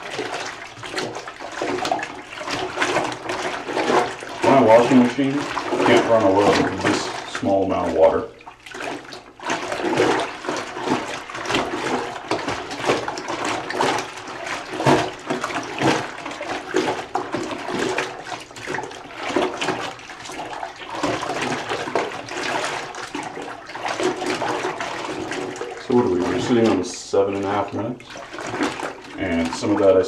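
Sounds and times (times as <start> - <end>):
clothes sloshing in bucket of water: 0.0 - 30.0.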